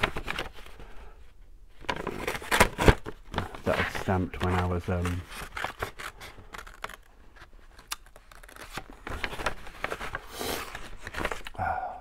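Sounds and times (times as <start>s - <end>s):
paper rustling: 1.8s - 11.6s.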